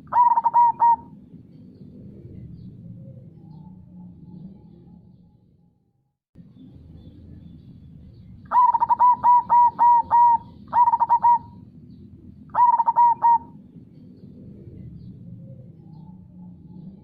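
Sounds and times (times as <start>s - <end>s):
dove cooing song: 0.0s - 5.2s, 8.4s - 17.0s.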